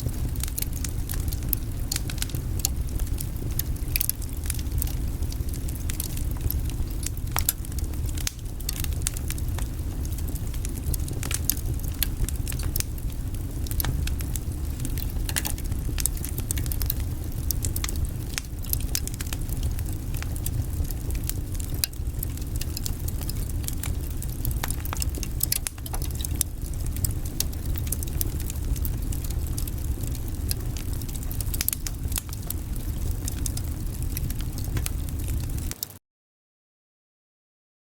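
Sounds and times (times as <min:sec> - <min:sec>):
low rumble of flame: 0:00.0 - 0:35.8
logs crackling and popping: 0:00.0 - 0:36.0.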